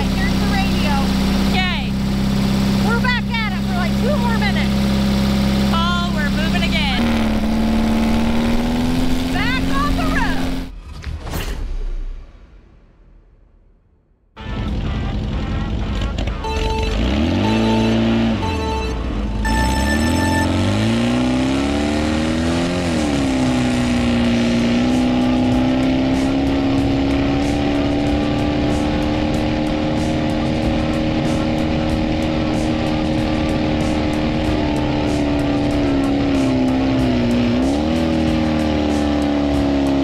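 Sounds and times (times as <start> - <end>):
buggy engine revving: 0.0 - 11.0, 14.4 - 40.0.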